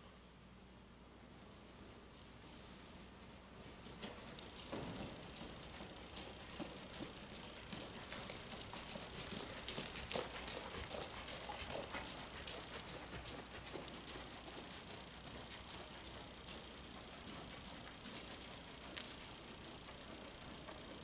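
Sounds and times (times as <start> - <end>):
horse hooves on sand: 1.5 - 21.0.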